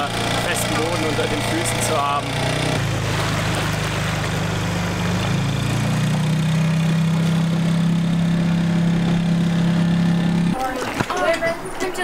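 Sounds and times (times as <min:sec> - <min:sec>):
small outboard motor running: 0:00.0 - 0:11.3.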